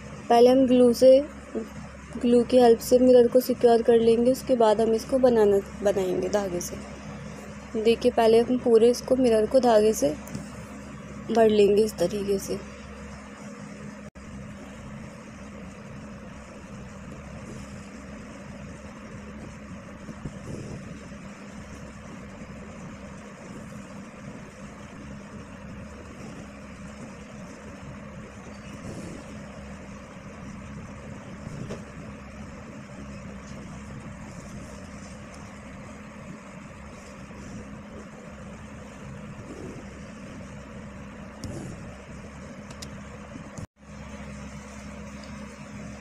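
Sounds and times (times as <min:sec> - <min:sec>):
mechanical hum with whooshing: 0:00.0 - 0:46.0.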